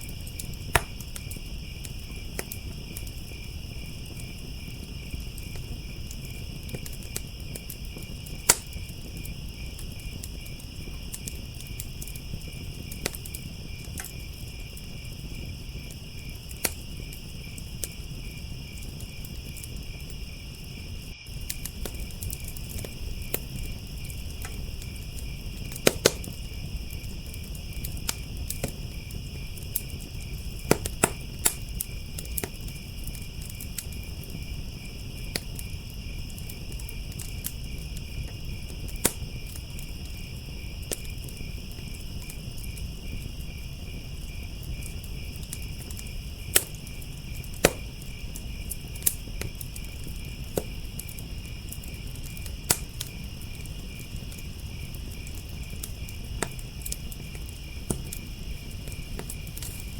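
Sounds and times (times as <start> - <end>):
crickets chirping: 0.0 - 59.9
sharp pops of fire: 0.0 - 59.9
wood fire crackling: 0.0 - 59.9.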